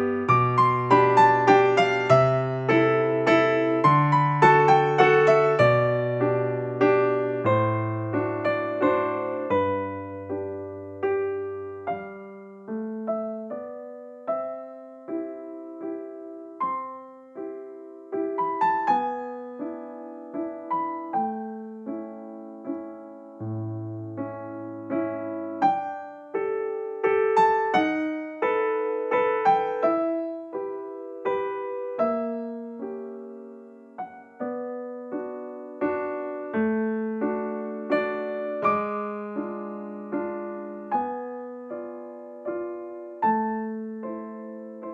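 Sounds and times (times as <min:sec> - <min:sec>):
soft piano music: 0:00.0 - 0:44.9.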